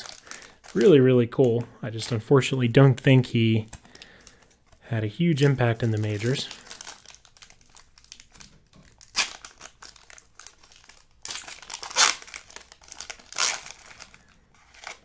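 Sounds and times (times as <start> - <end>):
foil wrapper crinkling and ripping: 0.0 - 2.2, 3.4 - 15.0.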